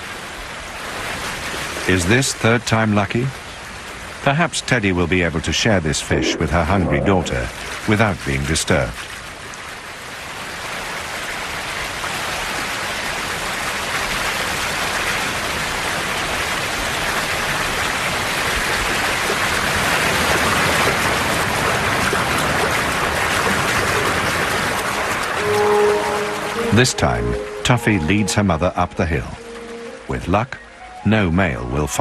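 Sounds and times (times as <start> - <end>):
rushing river water: 0.0 - 32.0.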